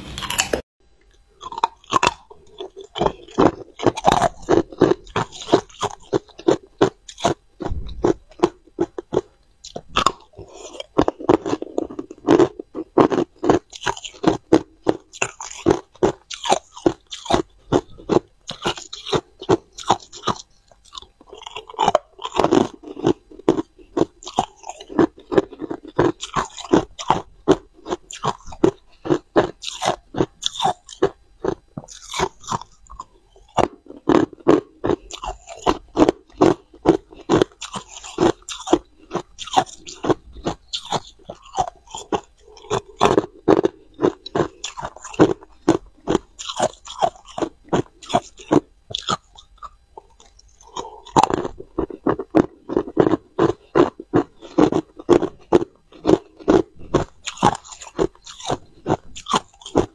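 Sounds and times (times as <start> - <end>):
person crunching ice cubes: 0.1 - 0.6, 1.4 - 59.9.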